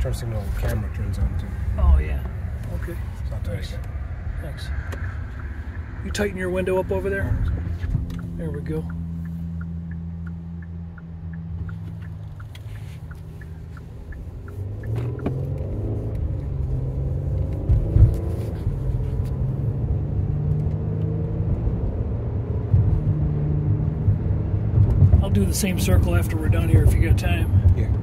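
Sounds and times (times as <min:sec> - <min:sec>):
car engine idling and accelerating: 0:00.0 - 0:28.0
turn signal ticking: 0:00.0 - 0:28.0.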